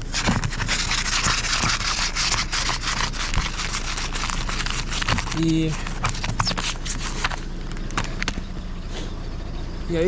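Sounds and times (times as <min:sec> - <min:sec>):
plastic scraping ice off windshield: 0:00.0 - 0:08.2.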